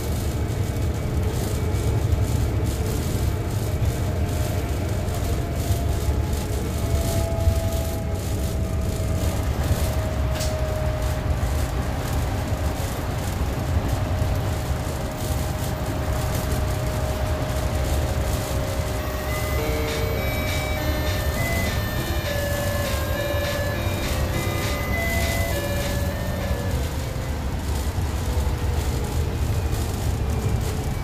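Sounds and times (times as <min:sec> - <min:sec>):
bus engine and tyres rumbling: 0:00.0 - 0:31.0
faint steady whine: 0:00.0 - 0:31.0.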